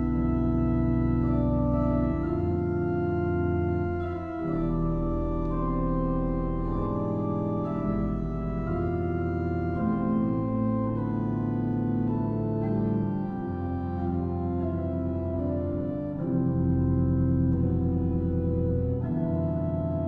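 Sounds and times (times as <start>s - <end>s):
organ chords: 0.0s - 20.0s.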